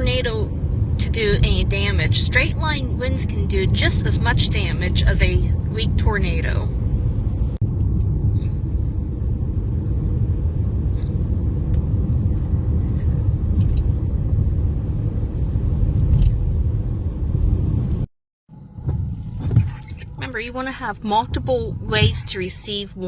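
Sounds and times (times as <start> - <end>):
car driving on road: 0.0 - 23.0.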